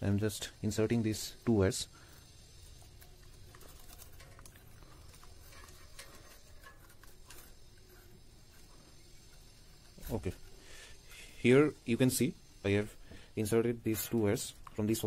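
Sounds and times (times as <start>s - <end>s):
wires rustling and clicking: 0.0s - 15.0s.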